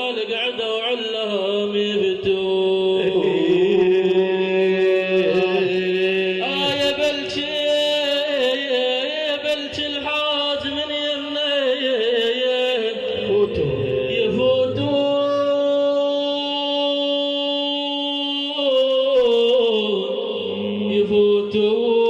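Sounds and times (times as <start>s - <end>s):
man singing religious song: 0.0s - 22.0s.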